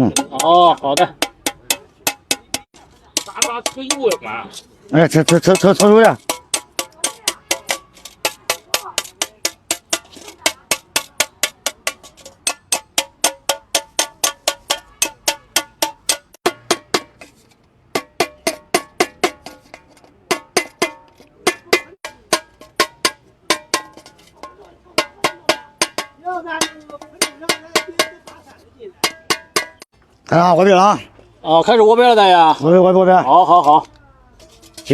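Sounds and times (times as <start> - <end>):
hammer striking metal bucket: 0.0 - 29.9.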